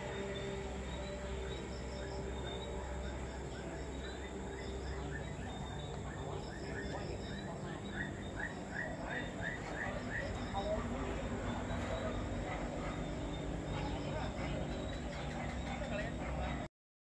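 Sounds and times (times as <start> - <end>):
low steady rumble: 0.0 - 16.7.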